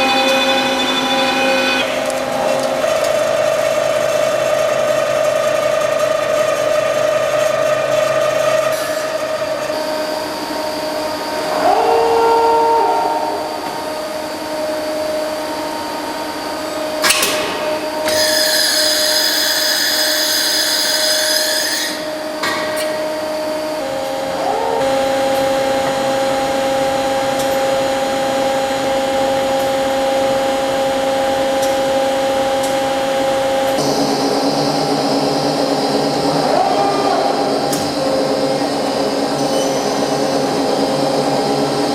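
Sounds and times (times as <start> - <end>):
machine spindle whine: 0.0 - 41.9.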